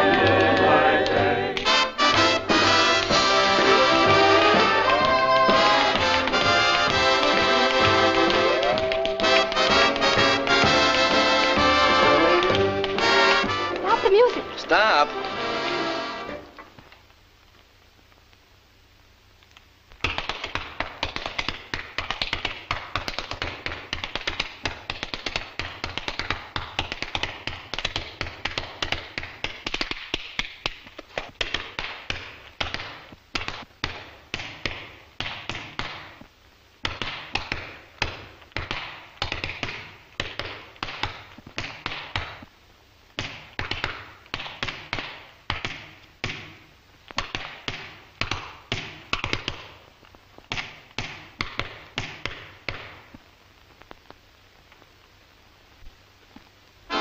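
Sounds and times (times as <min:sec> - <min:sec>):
tap shoes on stage floor: 0:00.0 - 0:15.5, 0:19.9 - 0:42.5, 0:43.1 - 0:54.9.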